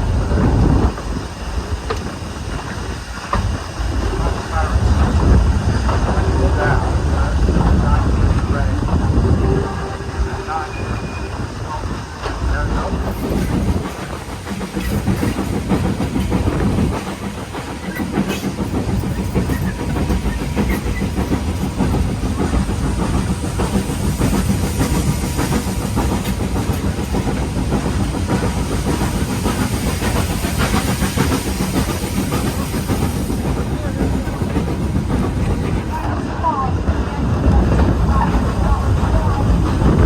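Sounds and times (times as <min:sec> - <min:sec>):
steam hissing: 0:00.0 - 0:40.0
train wheels rumbling on track: 0:00.0 - 0:40.0.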